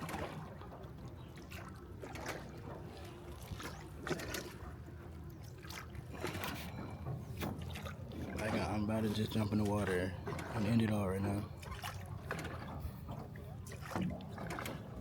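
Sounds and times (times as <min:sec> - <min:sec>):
oars splashing in water: 0:00.0 - 0:15.0.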